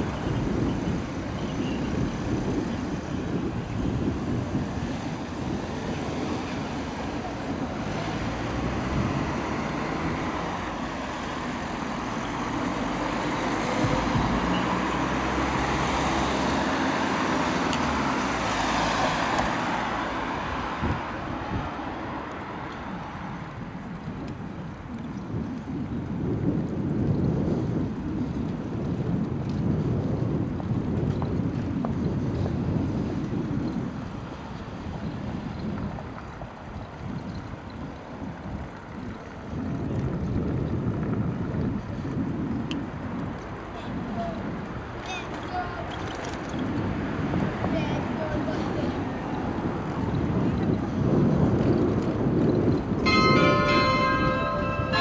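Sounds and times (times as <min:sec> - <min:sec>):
street traffic: 0:00.0 - 0:55.0
wind noise on microphone: 0:00.0 - 0:55.0.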